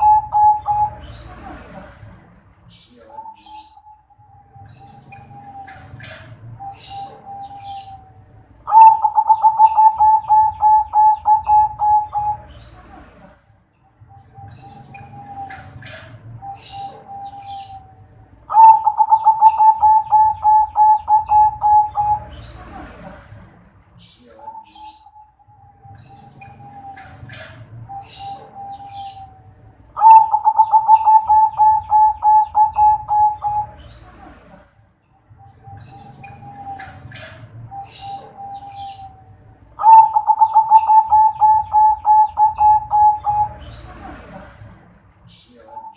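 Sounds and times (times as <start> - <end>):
dove cooing rapidly: 0.0 - 2.0, 2.7 - 13.3, 14.4 - 23.2, 24.0 - 34.6, 35.7 - 44.5
small birds chirping: 0.0 - 45.9.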